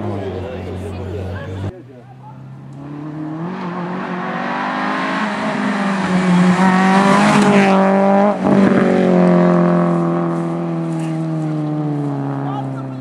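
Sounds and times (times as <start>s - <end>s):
rally car passing at high revs: 0.0s - 13.0s.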